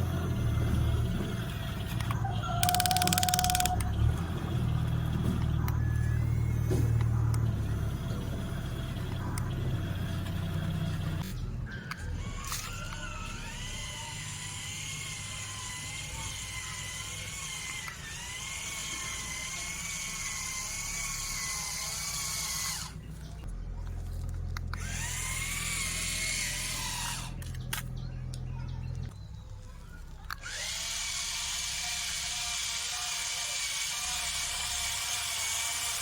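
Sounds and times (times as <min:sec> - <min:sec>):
small electric motors whining: 0:00.0 - 0:36.0.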